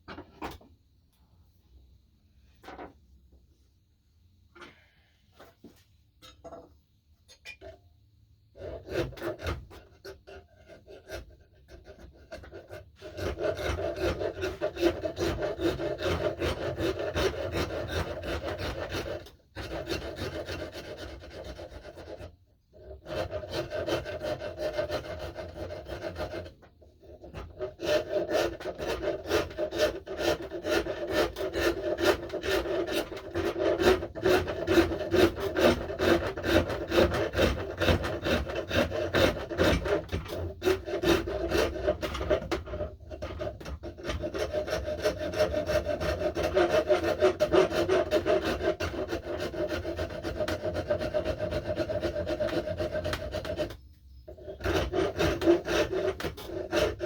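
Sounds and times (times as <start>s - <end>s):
rasp scraping wood: 8.5s - 57.0s.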